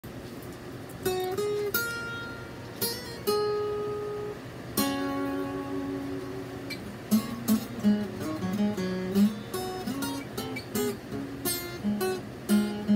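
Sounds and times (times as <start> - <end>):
acoustic guitar picked notes: 1.0 - 12.9.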